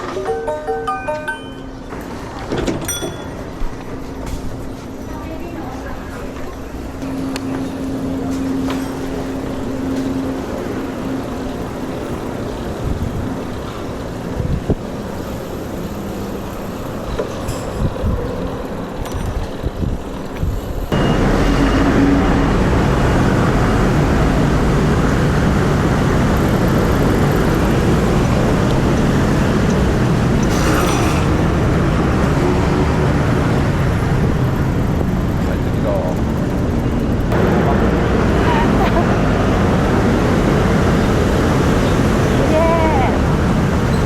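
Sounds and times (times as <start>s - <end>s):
road traffic: 0.0s - 44.0s.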